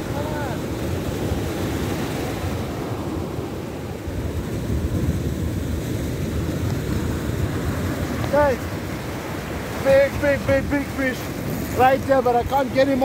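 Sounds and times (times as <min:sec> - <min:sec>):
surf breaking on sand: 0:00.0 - 0:13.0
wind buffeting microphone: 0:00.0 - 0:13.0.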